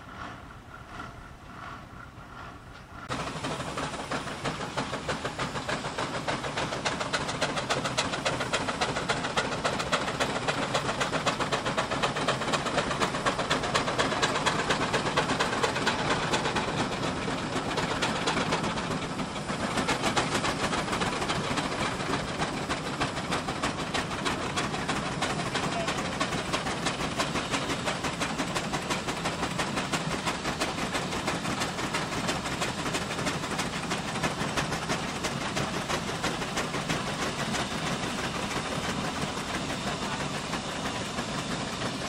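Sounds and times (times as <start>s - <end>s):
steam engines chuffing: 0.0s - 42.0s
steam hiss: 0.0s - 42.0s.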